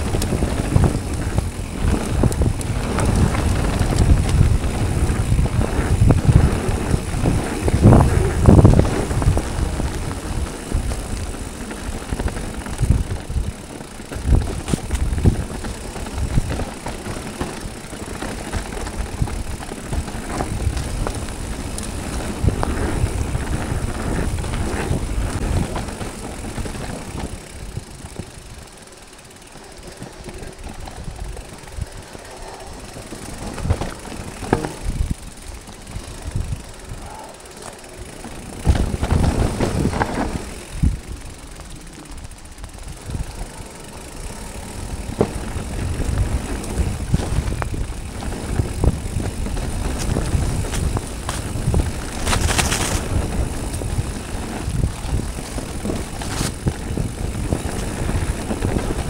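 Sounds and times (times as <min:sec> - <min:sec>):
wind on microphone: 0:00.0 - 0:28.5, 0:29.9 - 0:41.4, 0:42.1 - 0:59.0
bike rattling over roots: 0:00.0 - 0:59.0
bike tyres rolling on dirt: 0:00.0 - 0:59.0.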